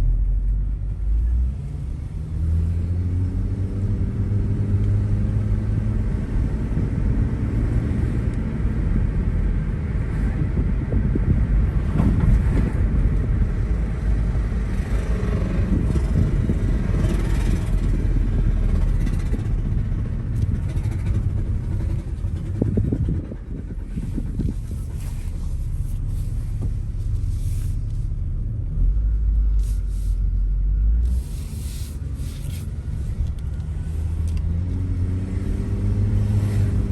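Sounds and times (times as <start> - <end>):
low rumble inside moving car: 0.0 - 36.9.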